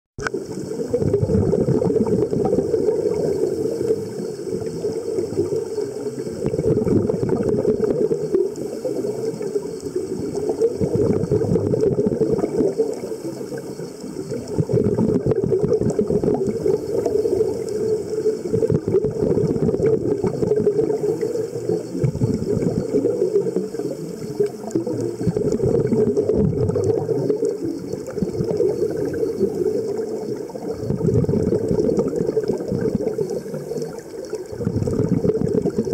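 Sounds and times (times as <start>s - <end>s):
underwater regulator bubbles gurgling: 0.2s - 35.9s.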